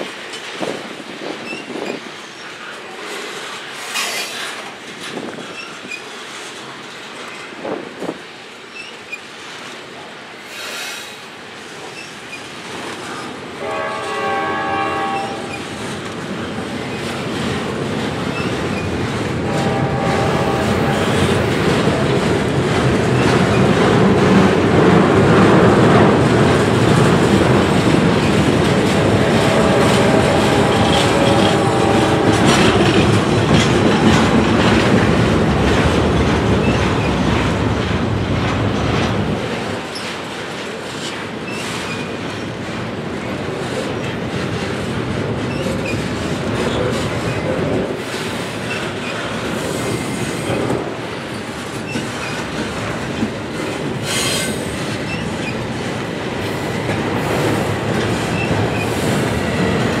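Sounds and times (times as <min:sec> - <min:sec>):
freight train rolling past: 0:00.0 - 1:00.0
wheels clacking over rail joints: 0:11.5 - 1:00.0.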